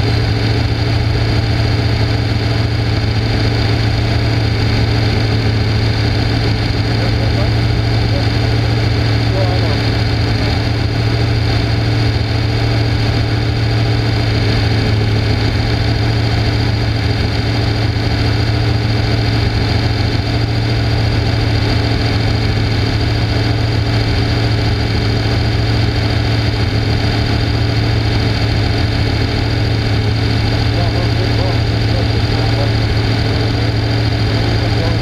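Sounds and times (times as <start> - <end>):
race car engine idling: 0.0 - 35.0.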